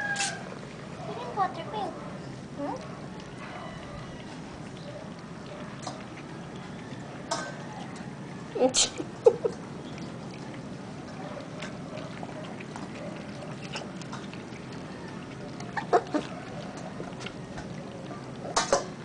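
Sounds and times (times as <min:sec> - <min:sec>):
puppies lapping water: 0:00.0 - 0:19.0.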